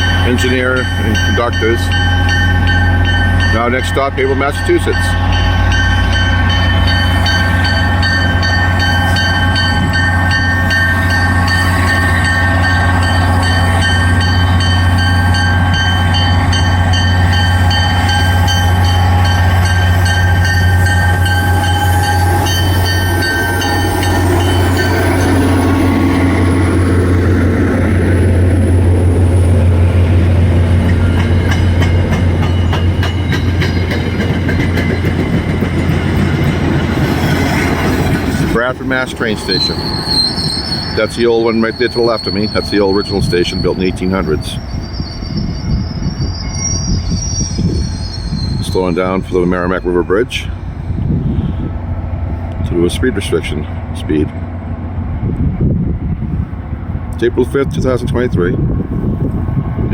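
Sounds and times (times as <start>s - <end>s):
diesel locomotive humming and whining: 0.0s - 59.9s
train rumble pulling out: 0.0s - 59.9s.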